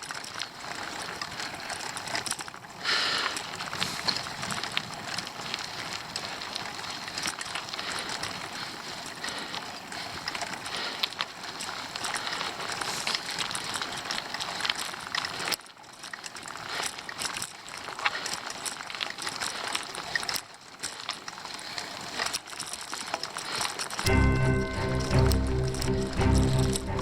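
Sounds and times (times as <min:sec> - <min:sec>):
bicycle tyres crunching gravel: 0:00.0 - 0:24.4.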